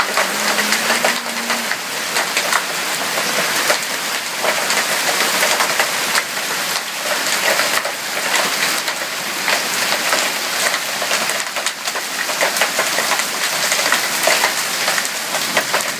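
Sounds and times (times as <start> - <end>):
hail pelting down: 0.0 - 15.9.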